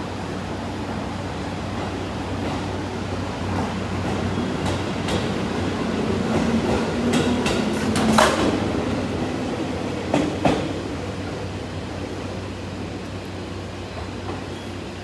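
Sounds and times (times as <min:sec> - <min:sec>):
electric train running hum: 0:00.0 - 0:15.0.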